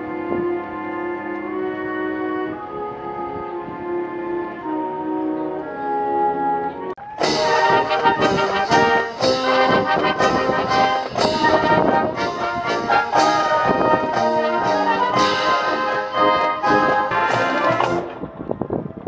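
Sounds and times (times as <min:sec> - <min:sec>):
military brass band playing: 0:00.0 - 0:18.3.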